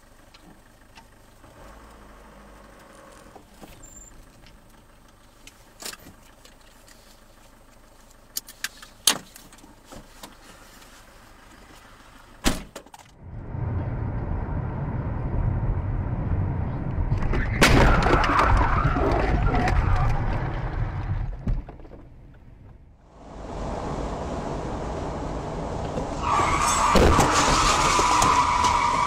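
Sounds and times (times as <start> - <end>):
car driving road noise: 0.0 - 29.0.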